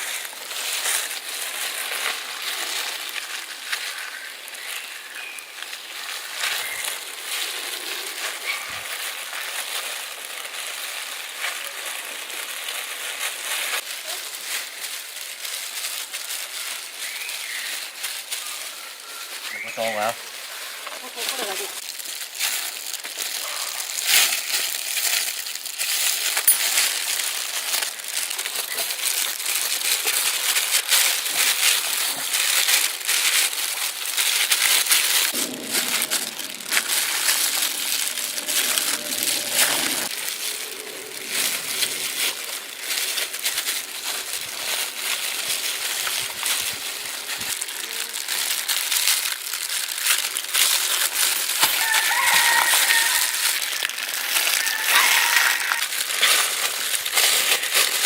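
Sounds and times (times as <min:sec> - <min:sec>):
dense crackling and crinkling: 0:00.0 - 0:58.0.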